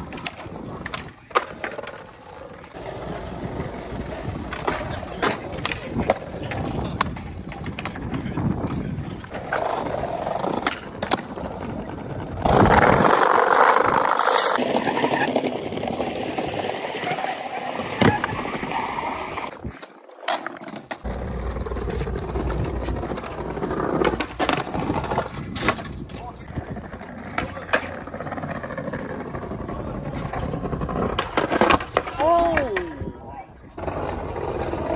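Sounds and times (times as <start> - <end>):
skateboard clacks popping and landing: 0.0 - 17.3, 19.5 - 33.1
skateboard wheels rolling on concrete: 0.0 - 34.9.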